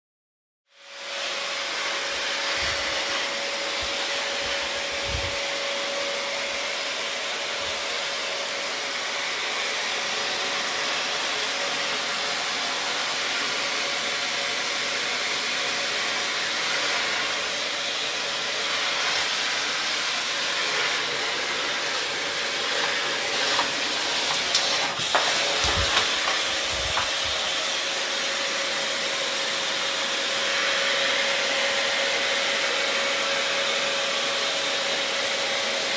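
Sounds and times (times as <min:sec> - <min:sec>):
vacuum cleaner running: 0:00.7 - 0:35.9.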